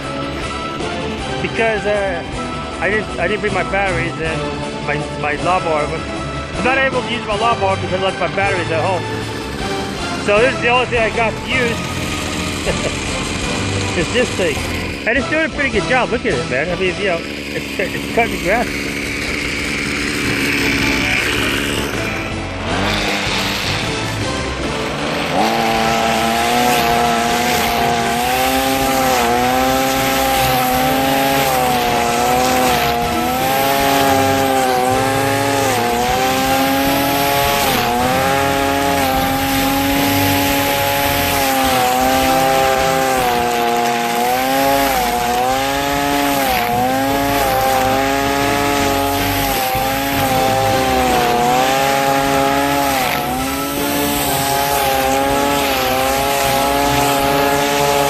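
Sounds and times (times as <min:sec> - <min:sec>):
string trimmer cutting grass: 0:00.0 - 0:58.0.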